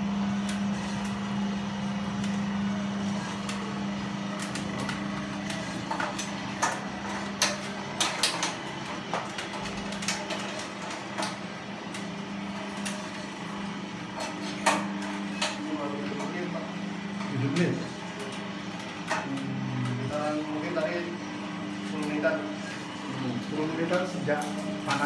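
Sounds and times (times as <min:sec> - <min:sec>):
roasting machine motor hum: 0:00.0 - 0:25.0.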